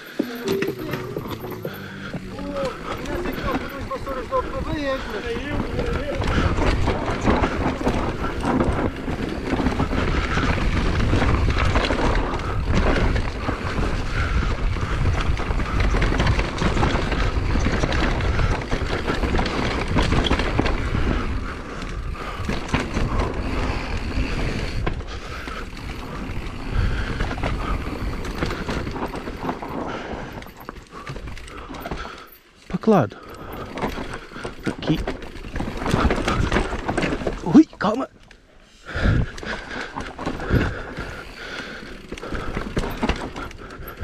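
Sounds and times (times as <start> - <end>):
bike rattling over bumps: 1.3 - 44.0
bike tyres on dirt and rocks: 1.3 - 44.0.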